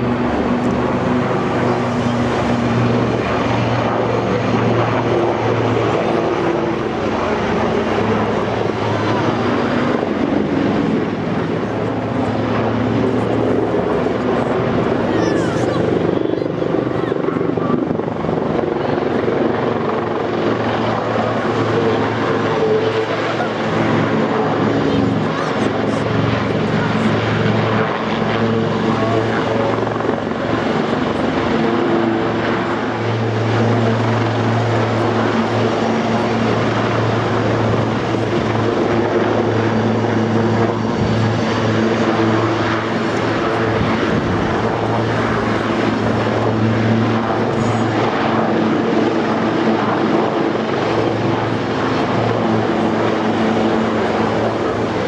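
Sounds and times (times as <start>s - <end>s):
helicopter rotors and turbine drone: 0.0s - 55.0s.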